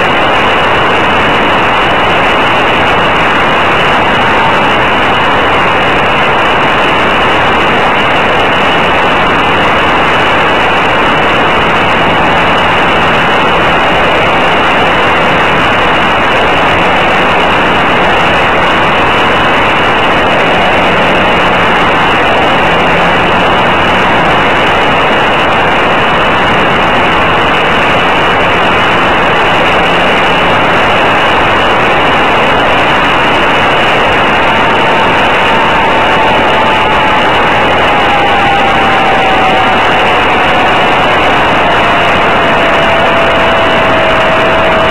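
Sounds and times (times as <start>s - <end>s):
model airplane engine and propeller: 0.0s - 38.0s
wind rushing over camera: 0.0s - 44.9s.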